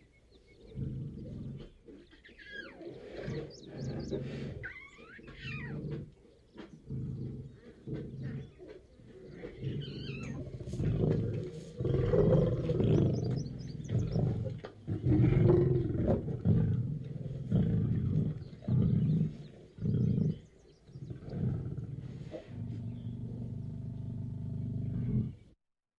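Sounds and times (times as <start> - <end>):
lion roaring: 2.5 - 6.2, 6.8 - 25.5.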